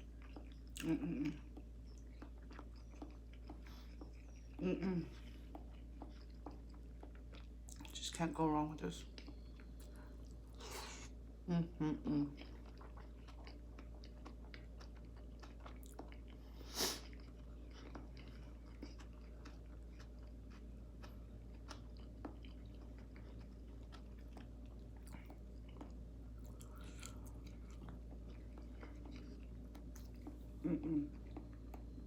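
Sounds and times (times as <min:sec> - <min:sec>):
chewing soft food: 0:00.0 - 0:32.0.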